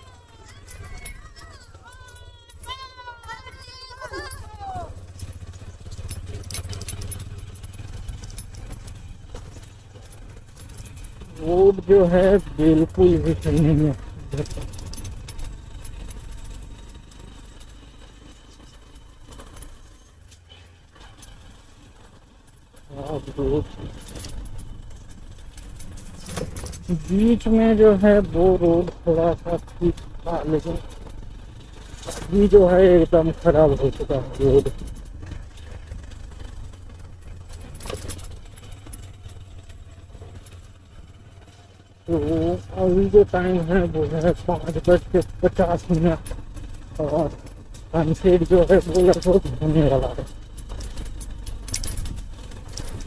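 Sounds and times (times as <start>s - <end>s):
bike rattling over potholes: 0.0s - 53.0s
motorcycle engine humming: 0.0s - 53.0s
short clatter: 0.0s - 53.0s.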